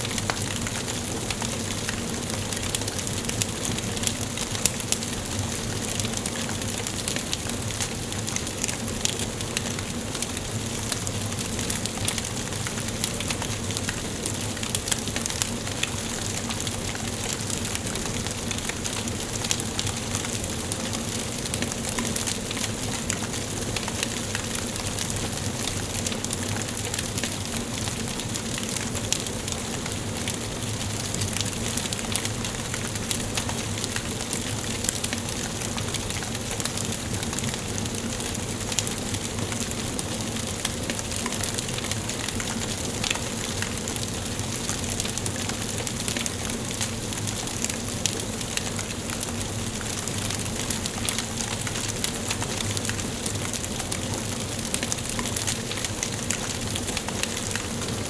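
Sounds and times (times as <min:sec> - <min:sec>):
steady hiss: 0:00.0 - 0:58.0
wood fire crackling: 0:00.0 - 0:58.0.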